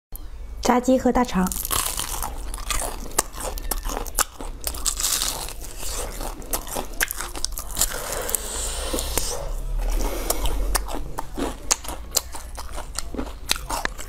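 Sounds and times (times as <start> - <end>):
crunching fried chicken: 1.5 - 14.0.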